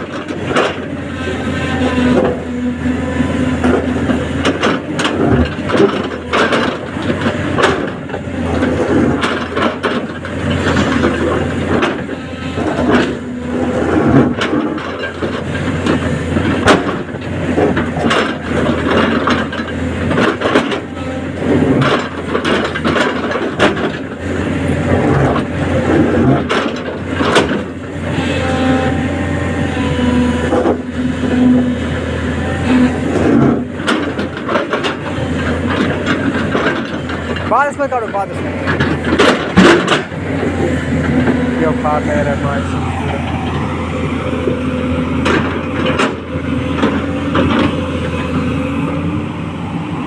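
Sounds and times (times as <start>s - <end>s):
knocks and clanks: 0.0s - 49.2s
excavator diesel engine running: 0.0s - 50.0s.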